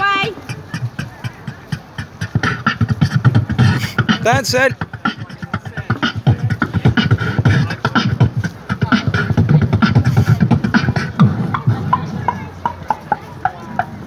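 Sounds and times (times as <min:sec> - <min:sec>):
person beatboxing into microphone: 0:00.0 - 0:14.0.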